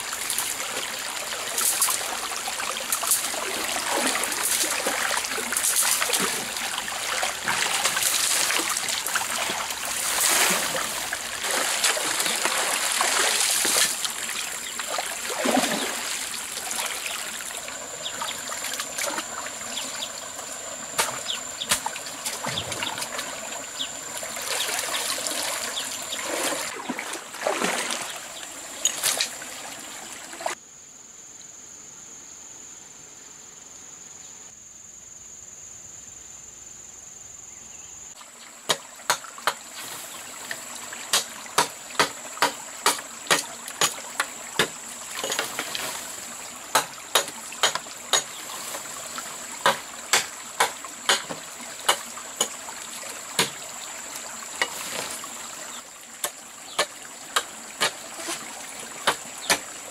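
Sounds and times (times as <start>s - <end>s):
stream water trickling and splashing: 0.0s - 30.6s, 38.1s - 59.9s.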